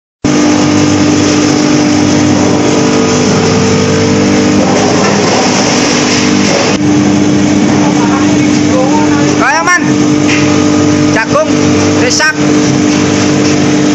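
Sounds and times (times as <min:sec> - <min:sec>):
dryer machine droning: 0:00.2 - 0:13.9.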